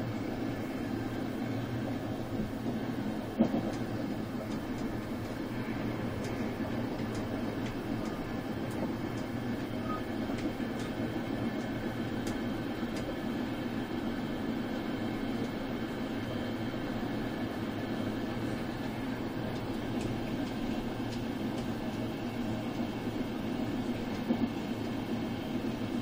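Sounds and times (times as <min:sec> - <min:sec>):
rumble of train wheels on rails: 0:00.0 - 0:26.0.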